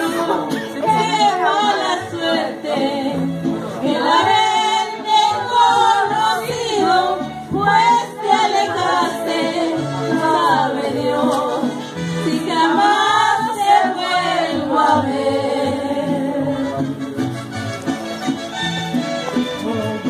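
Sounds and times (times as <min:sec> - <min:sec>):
women singing together: 0:00.0 - 0:16.8.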